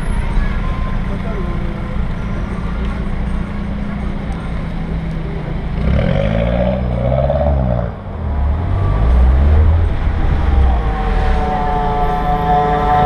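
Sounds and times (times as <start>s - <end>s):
car engine driving: 0.0s - 13.0s.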